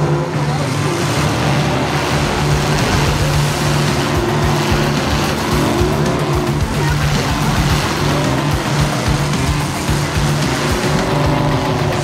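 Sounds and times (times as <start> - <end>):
car engines running hard: 0.0 - 12.0
tyre spinning on wet track: 0.0 - 12.0.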